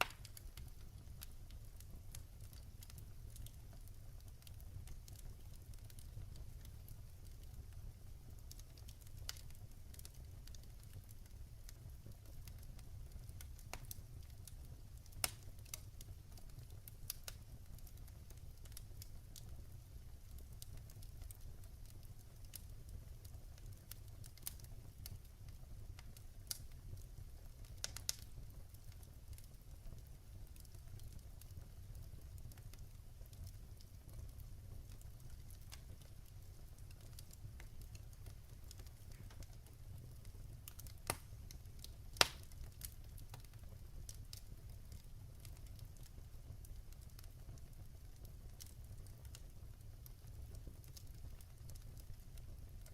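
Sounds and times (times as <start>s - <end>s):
burning logs crackling and popping: 0.0s - 52.9s
fire flames rumbling: 0.0s - 52.9s.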